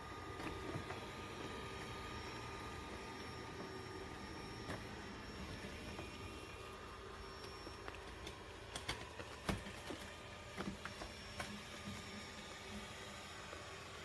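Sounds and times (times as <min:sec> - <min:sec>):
robot vacuum mop humming: 0:00.0 - 0:14.0.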